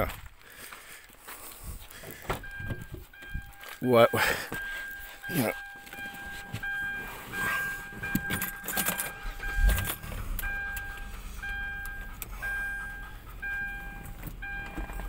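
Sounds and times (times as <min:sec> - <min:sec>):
electronic beep: 0:02.4 - 0:15.0.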